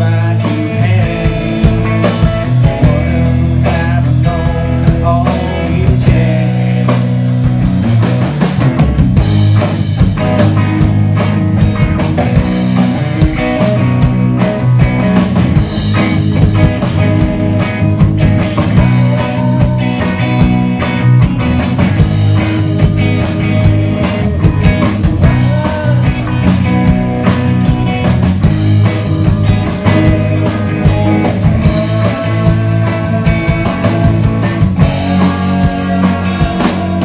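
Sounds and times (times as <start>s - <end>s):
electric guitars: 0.0s - 37.0s
steady drum beat: 0.0s - 37.0s.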